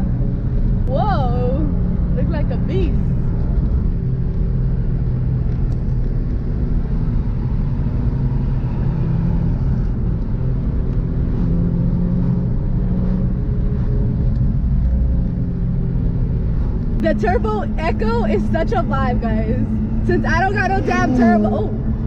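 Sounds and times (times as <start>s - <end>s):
car engines cruising: 0.0s - 22.0s.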